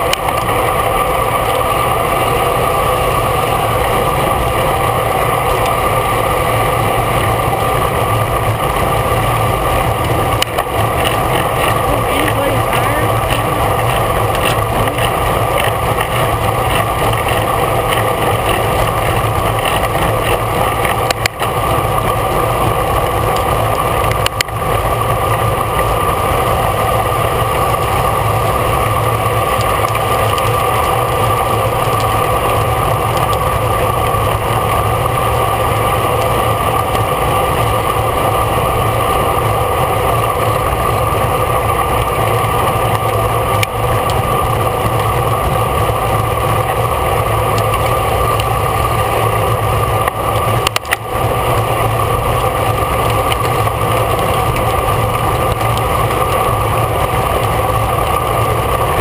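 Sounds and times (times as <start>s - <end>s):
bicycle road and wind noise: 0.0s - 59.0s
constant hum: 0.0s - 59.0s.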